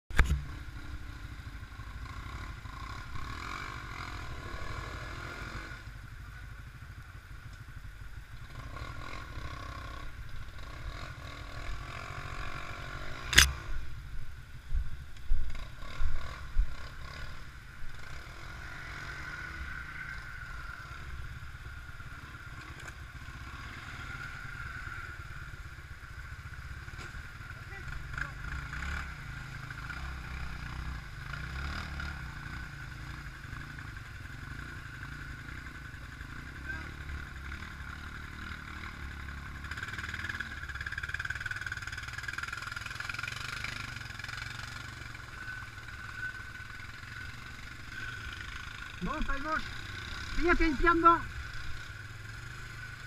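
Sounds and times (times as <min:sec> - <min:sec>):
quad bike engines running: 0:00.1 - 0:53.0.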